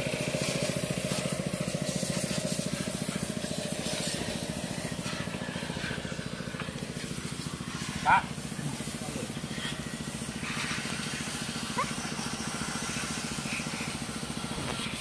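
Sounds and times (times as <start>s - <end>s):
engine chugging: 0.0s - 15.0s.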